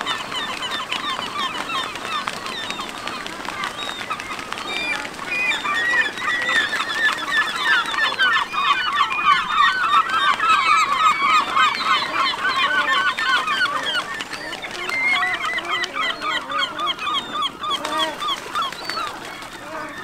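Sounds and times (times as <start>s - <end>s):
gulls and cormorants calling: 0.0s - 20.0s.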